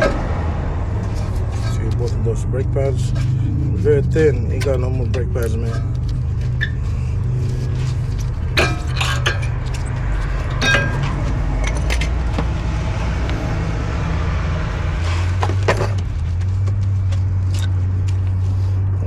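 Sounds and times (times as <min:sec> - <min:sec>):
steady low hum: 0:00.0 - 0:19.0
metal brake pads clinking: 0:00.9 - 0:13.5, 0:15.0 - 0:18.6.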